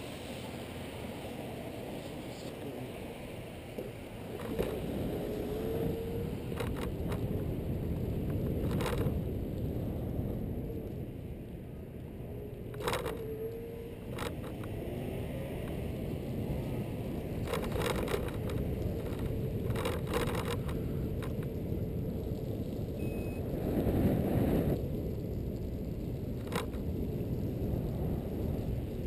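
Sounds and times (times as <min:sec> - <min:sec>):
tyre and wind noise: 0:00.0 - 0:29.0.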